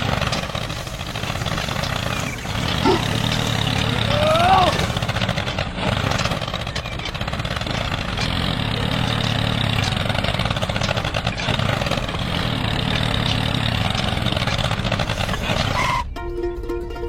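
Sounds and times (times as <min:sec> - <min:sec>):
small tractor engine rattling: 0:00.0 - 0:17.0.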